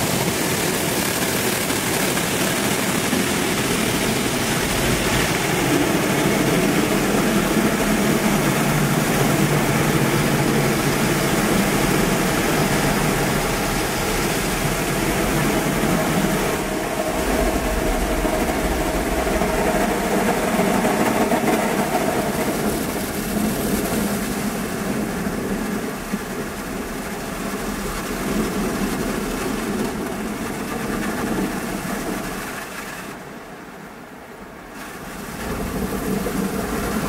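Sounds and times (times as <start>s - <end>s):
car wash rushing noise: 0.0s - 37.0s.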